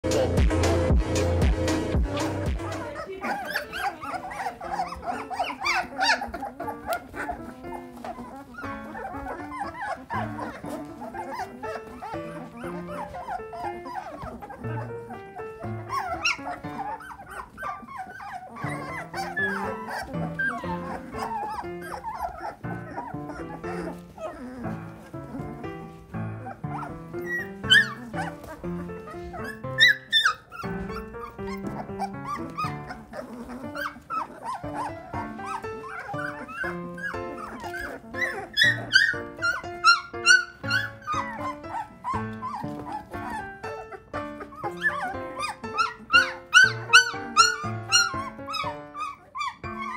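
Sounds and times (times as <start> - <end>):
background music: 0.0 - 49.9
puppies crying and whining: 0.1 - 49.9
puppies yelping: 0.1 - 49.9.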